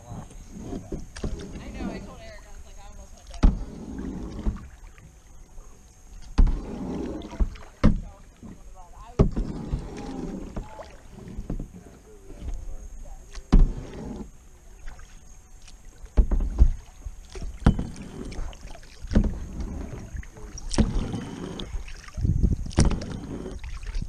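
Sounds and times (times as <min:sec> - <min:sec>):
kayak paddle splashing in water: 0:00.0 - 0:24.0.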